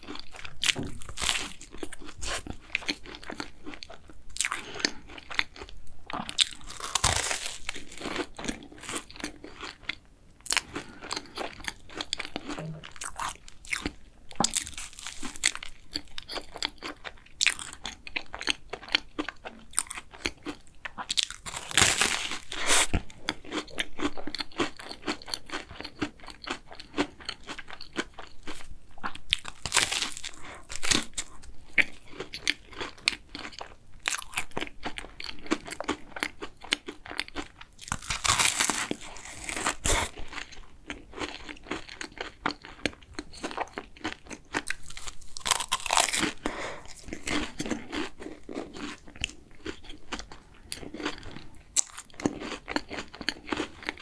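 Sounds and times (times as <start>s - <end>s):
crunchy bites: 0.0s - 54.0s
wet chewing: 0.0s - 54.0s.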